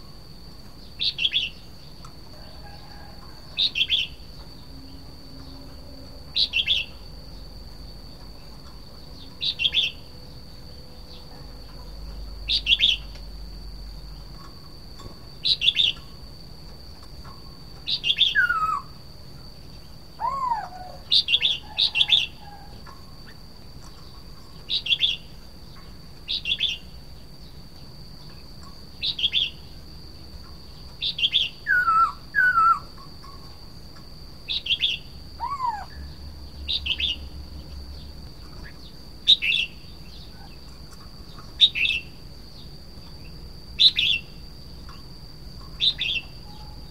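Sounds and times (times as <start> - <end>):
bird chirping phrases: 0.7 - 2.1, 3.6 - 7.1, 8.3 - 13.2, 15.4 - 16.2, 17.4 - 27.6, 28.2 - 29.8, 30.5 - 33.6, 34.4 - 45.0, 45.6 - 46.9.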